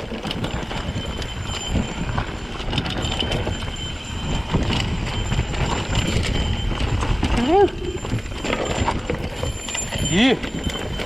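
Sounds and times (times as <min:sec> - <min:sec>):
mountain bike rattling: 0:00.0 - 0:11.0
wind rumbling on microphone: 0:00.0 - 0:11.0.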